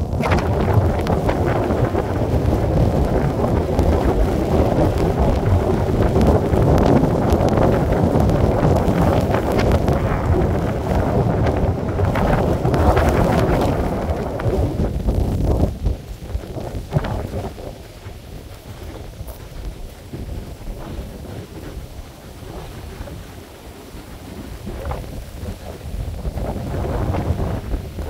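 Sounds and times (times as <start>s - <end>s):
storm wind buffeting microphone: 0.0s - 28.0s.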